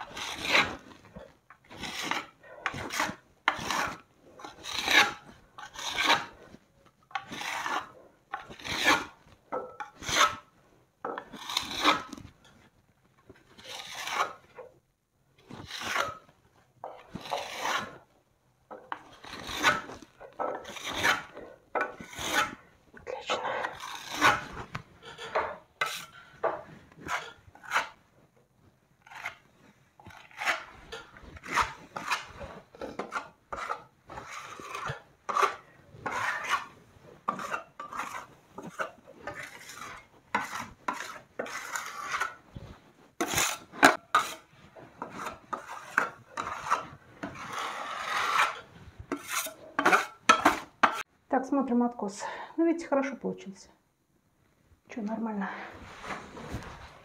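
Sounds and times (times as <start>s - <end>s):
spatula scraping plaster: 0.0s - 14.8s, 15.4s - 51.1s.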